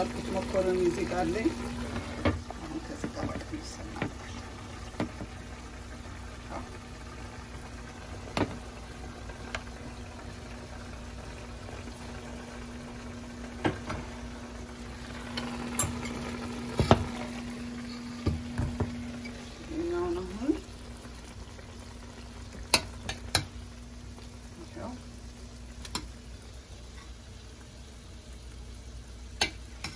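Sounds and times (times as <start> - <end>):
kitchen hum and hiss: 0.0 - 29.9.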